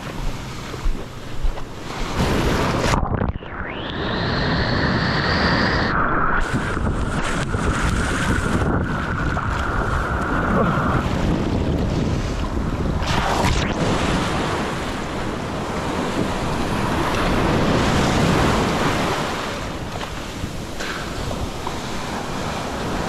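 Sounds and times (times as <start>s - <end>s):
surf washing and churning: 0.0s - 23.0s
wind buffeting microphone: 0.0s - 23.0s.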